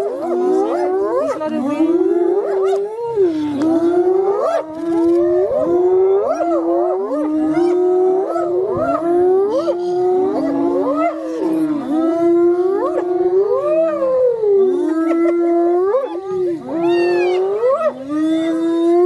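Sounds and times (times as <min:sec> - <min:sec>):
animals howling and yelping: 0:00.0 - 0:19.0.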